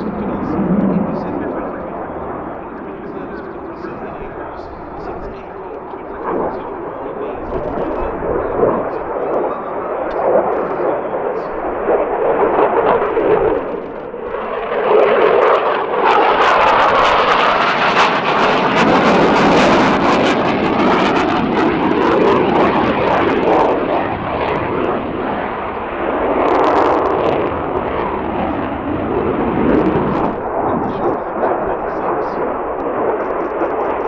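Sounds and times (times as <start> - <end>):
jet fighter roaring past: 0.0 - 34.0.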